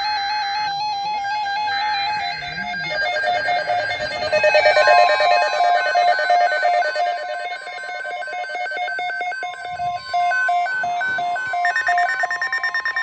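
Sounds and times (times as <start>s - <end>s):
steady warning tone: 1.0s - 13.0s
rapid electronic alert beeps: 1.9s - 13.0s.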